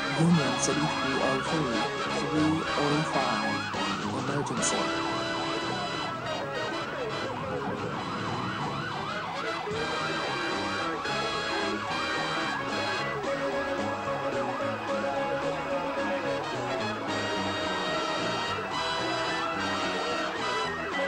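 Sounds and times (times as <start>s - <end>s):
ambulance siren yelping: 0.0s - 21.0s.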